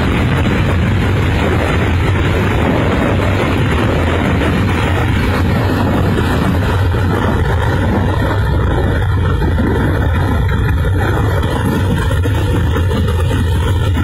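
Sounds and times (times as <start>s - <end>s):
deep rumble: 0.0s - 14.0s.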